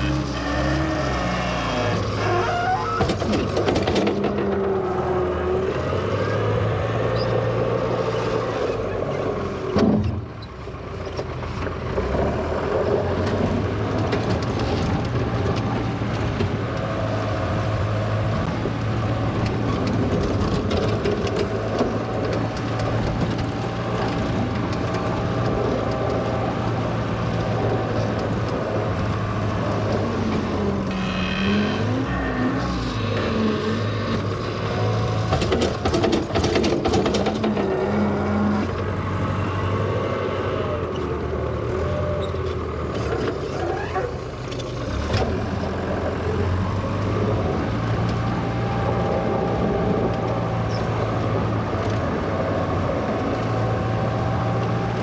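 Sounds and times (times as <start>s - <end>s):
wheel loader engine running: 0.0s - 55.0s.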